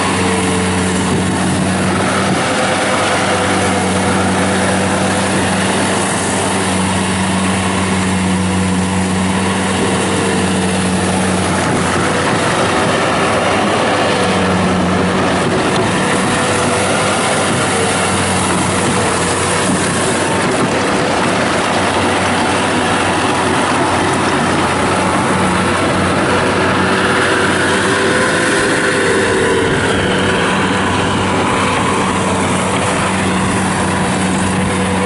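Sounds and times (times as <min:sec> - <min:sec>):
diesel engine running: 0:00.0 - 0:35.0
low engine hum: 0:00.0 - 0:35.0.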